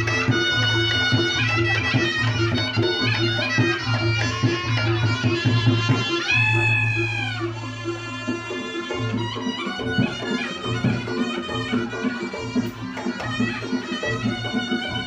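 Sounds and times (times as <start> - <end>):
drum beat: 0.0 - 7.4, 8.4 - 15.0
gong percussion: 0.0 - 15.0
reedy shawm melody: 0.0 - 15.0.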